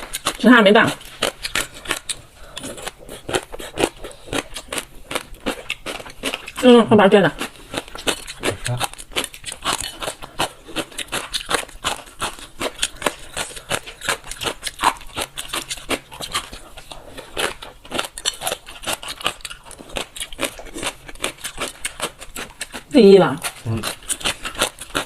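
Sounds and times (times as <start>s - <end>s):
chewing crunchy food: 0.0s - 25.0s.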